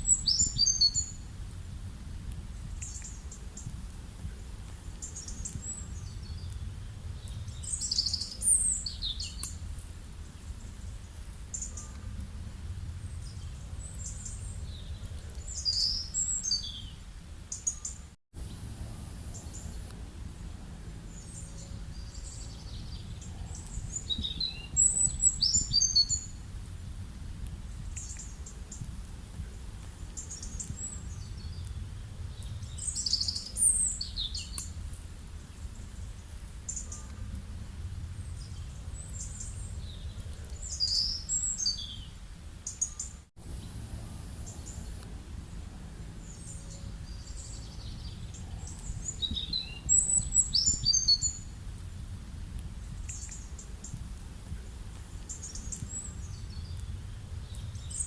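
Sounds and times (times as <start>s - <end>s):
small birds chirping: 0.0s - 1.3s, 2.6s - 51.6s, 52.8s - 58.0s
low outdoor rumble: 0.0s - 17.8s, 18.4s - 58.0s.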